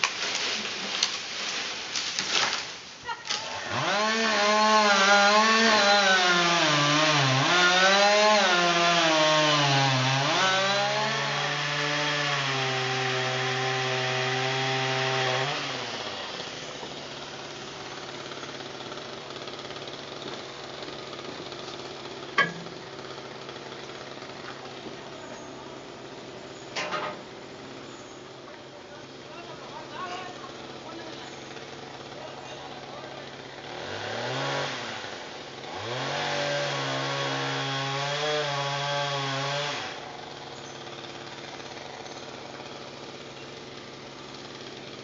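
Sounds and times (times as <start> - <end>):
pole saw engine sawing wood: 0.0 - 45.0.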